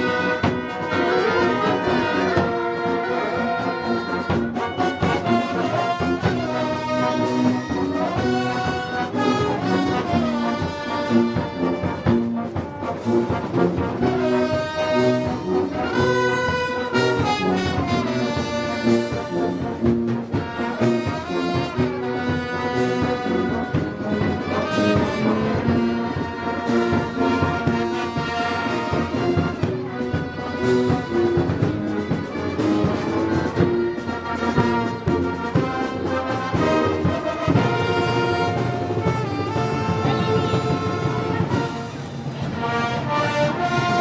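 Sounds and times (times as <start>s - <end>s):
brass band playing march: 0.0s - 44.0s
drums and cymbals beat: 0.0s - 44.0s.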